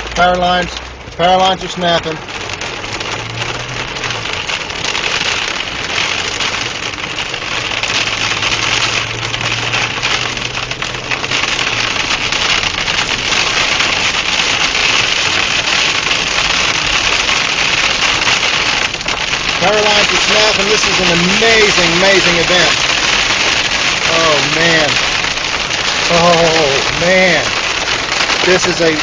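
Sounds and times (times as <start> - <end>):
heavy rain and storm wind: 0.0 - 29.0
vehicle engine humming: 0.0 - 29.0.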